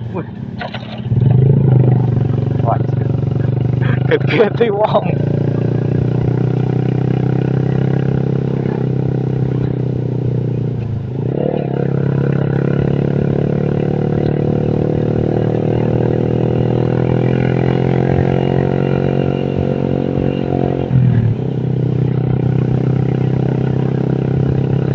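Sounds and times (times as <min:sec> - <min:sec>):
scooter engine running: 0:00.0 - 0:24.9.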